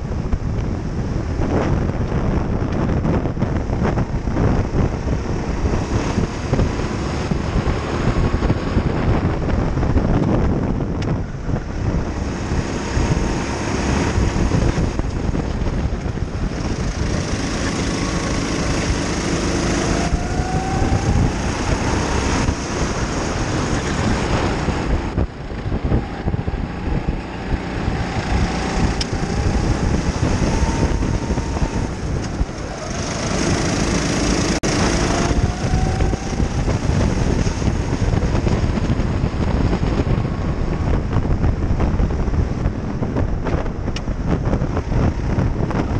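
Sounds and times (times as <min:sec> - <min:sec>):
wind noise on microphone: 0:00.0 - 0:45.9
kart engine revving: 0:00.9 - 0:45.9.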